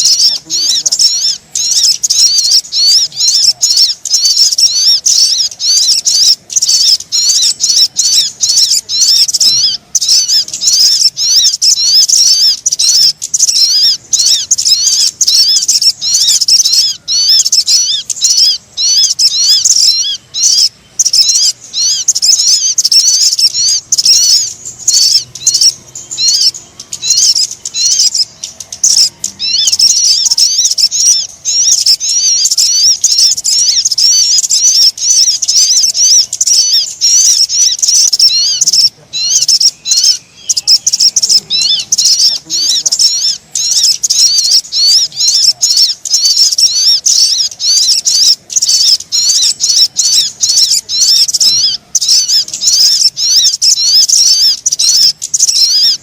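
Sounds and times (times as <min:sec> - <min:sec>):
high thin bird chirping: 0:00.0 - 0:56.0.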